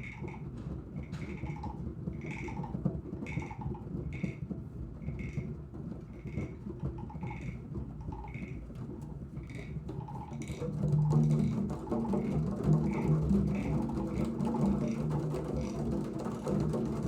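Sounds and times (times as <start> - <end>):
children playing drums: 0.0 - 17.0.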